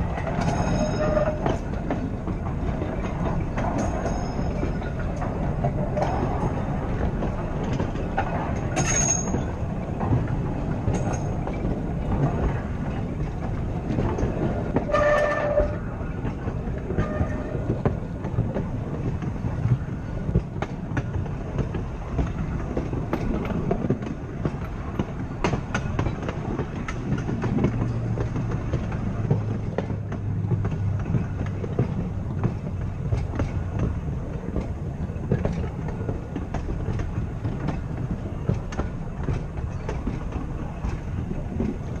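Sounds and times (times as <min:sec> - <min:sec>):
steel wheels rumbling on rail: 0:00.0 - 0:42.0
wheels clicking over rail joints: 0:00.0 - 0:42.0.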